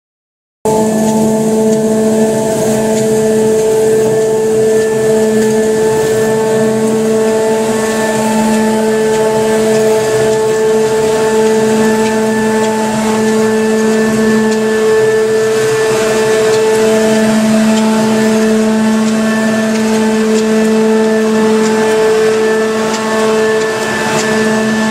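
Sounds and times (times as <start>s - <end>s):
floor scrubber motor hum: 0.7s - 24.9s.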